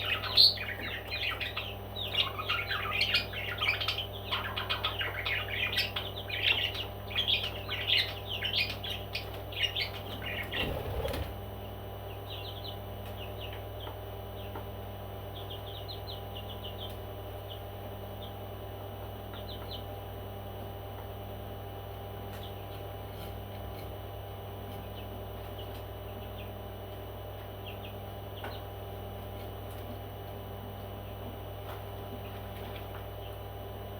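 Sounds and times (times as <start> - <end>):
mains hum: 0.0 - 33.9.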